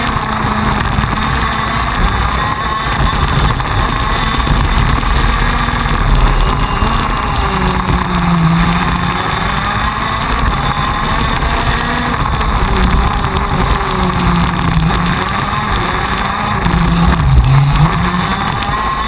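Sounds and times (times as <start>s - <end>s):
kart engine running hard: 0.0s - 19.0s.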